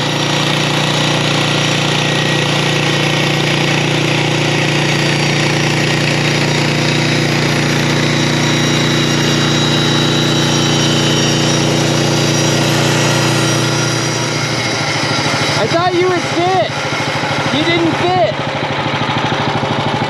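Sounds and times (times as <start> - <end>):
band sawmill cutting log: 0.0 - 20.0.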